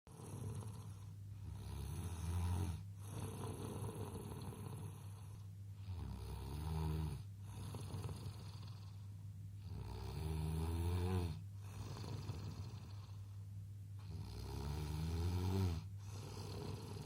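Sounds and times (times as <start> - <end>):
baby snoring: 0.1 - 13.4, 14.0 - 17.0.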